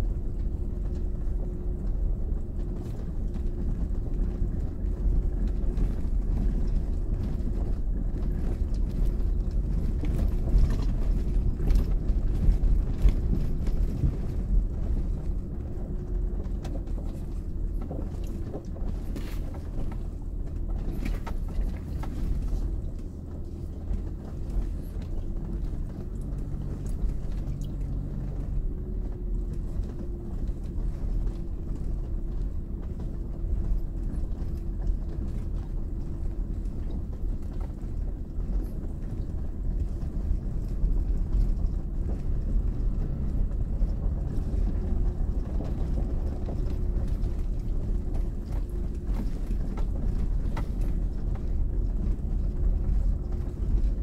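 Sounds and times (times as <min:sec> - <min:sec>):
body and suspension rattles: 0:00.0 - 0:54.0
engine and tyres rumbling: 0:00.0 - 0:54.0.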